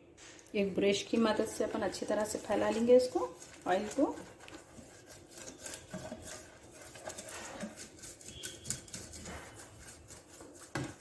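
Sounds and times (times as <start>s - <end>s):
brush strokes on cake pan: 0.8s - 11.0s.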